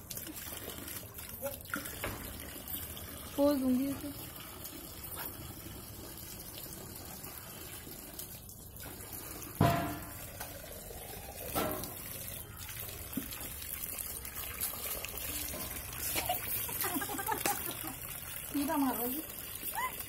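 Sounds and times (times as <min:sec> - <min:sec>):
tap water running into bucket: 0:00.0 - 0:20.0.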